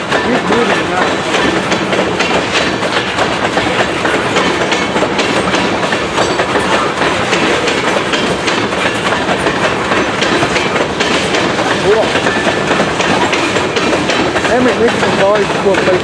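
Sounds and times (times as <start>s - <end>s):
freight train wheels clacking: 0.0s - 16.0s.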